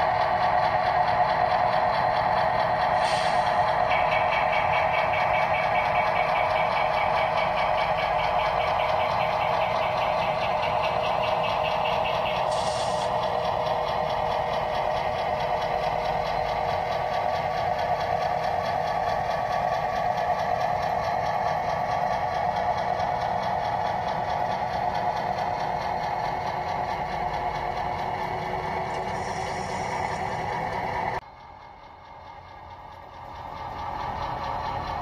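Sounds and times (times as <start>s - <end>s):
model train wheels clattering: 0.1s - 31.2s.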